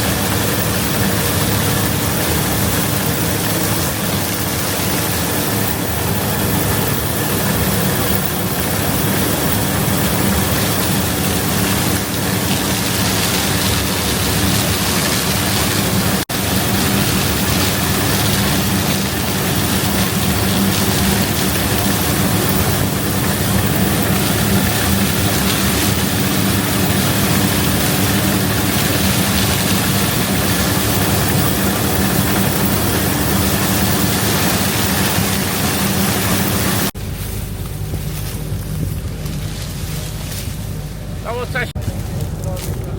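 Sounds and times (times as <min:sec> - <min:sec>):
harvest machinery diesel drone: 0:00.0 - 0:42.9.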